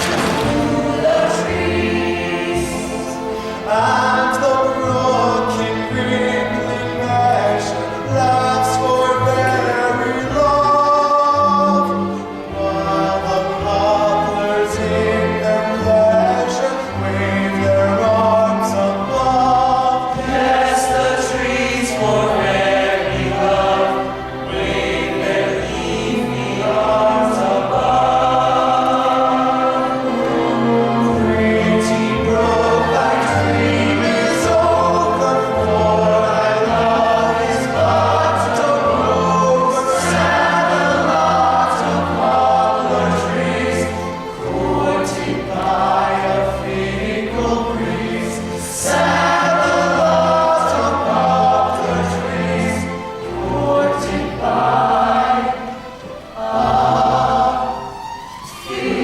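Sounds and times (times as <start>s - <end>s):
chorus singing operetta: 0.0s - 59.0s
musical accompaniment: 0.0s - 59.0s.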